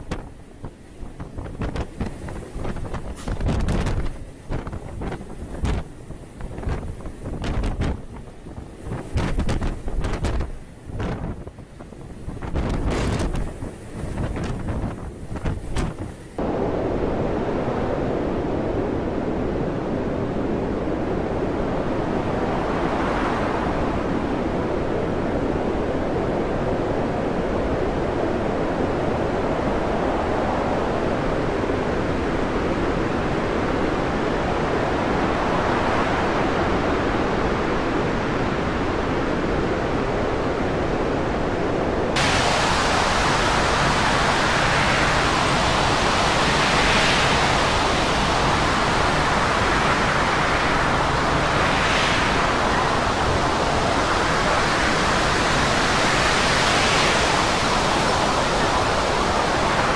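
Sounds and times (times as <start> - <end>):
heavy seas rushing: 0.0 - 59.9
storm wind: 0.0 - 59.9.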